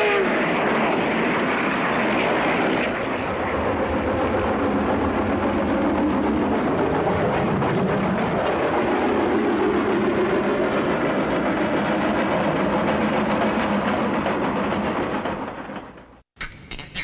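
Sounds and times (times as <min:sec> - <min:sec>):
steam locomotive running: 0:00.0 - 0:16.2.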